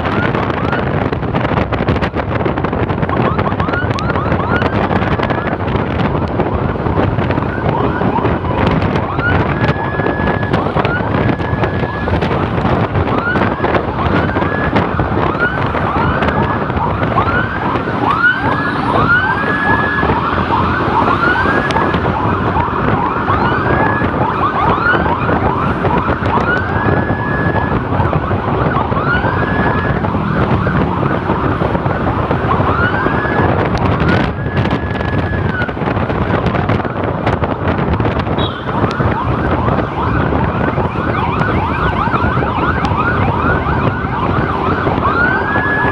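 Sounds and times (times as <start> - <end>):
electronic emergency siren: 0.0 - 45.9
road noise: 0.0 - 45.9
wind: 0.0 - 45.9.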